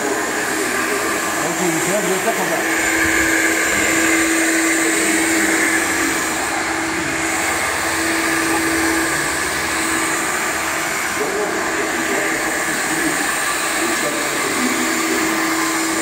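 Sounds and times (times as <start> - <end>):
floor scrubber motor hum: 0.0 - 16.0.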